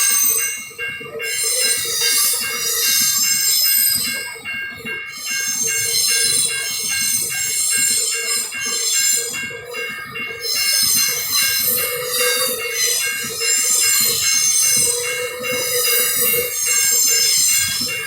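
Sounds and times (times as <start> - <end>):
wagon wheels squealing on rails: 0.0 - 18.0.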